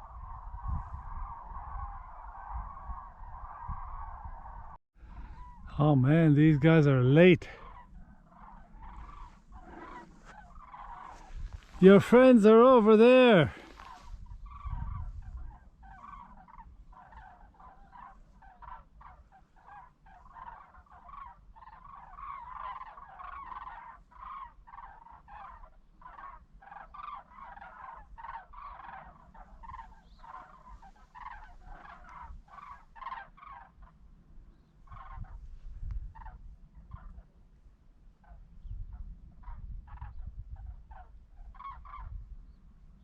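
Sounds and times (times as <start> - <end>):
flock of birds calling: 0.0 - 37.3, 38.2 - 42.6.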